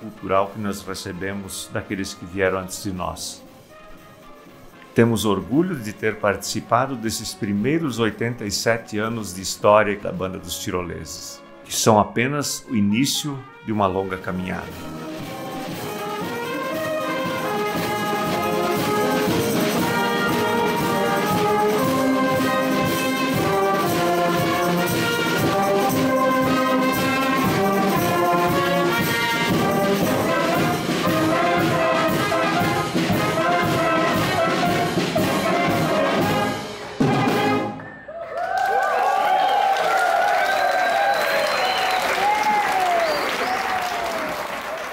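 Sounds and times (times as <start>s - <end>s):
brass and clarinet wind band: 0.0s - 9.8s, 11.7s - 37.8s.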